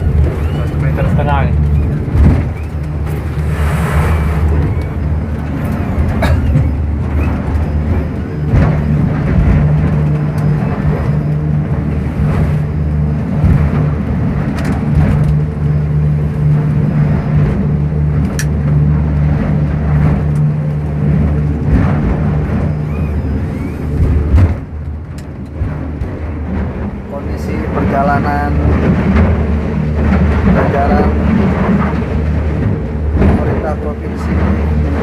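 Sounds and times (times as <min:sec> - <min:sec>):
boat engine droning: 0:00.0 - 0:35.0
boat knocking on waves: 0:00.0 - 0:35.0
rushing water: 0:00.0 - 0:35.0.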